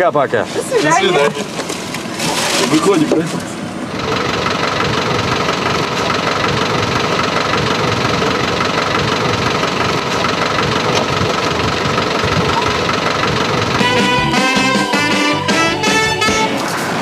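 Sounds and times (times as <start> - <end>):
street noise: 0.0 - 17.0
car engine idling: 1.3 - 17.0.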